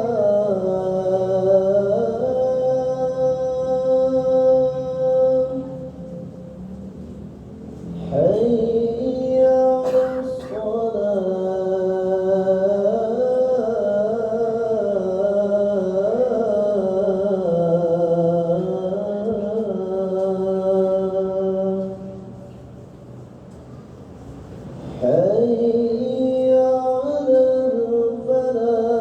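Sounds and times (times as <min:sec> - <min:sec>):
man chanting call to prayer: 0:00.0 - 0:06.6, 0:07.9 - 0:22.5, 0:24.9 - 0:29.0.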